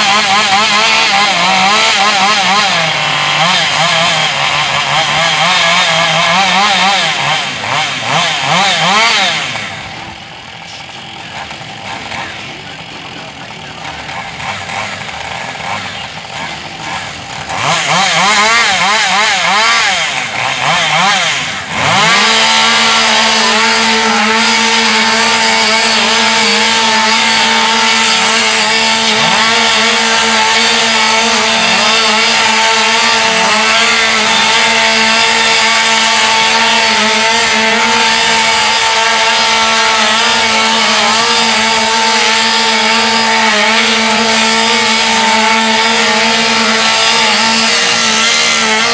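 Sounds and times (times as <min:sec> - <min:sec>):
chainsaws revving and cutting: 0:00.0 - 0:48.9.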